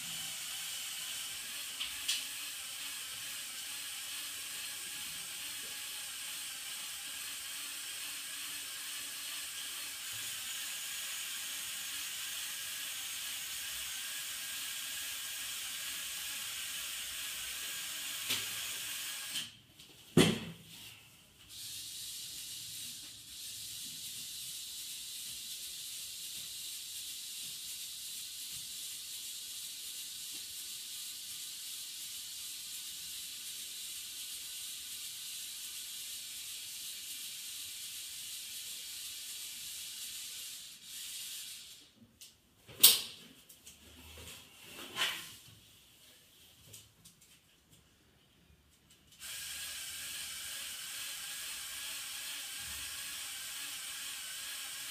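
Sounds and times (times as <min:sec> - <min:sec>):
toy motors whirring: 0:00.0 - 0:19.6, 0:21.5 - 0:42.0, 0:49.1 - 0:54.9.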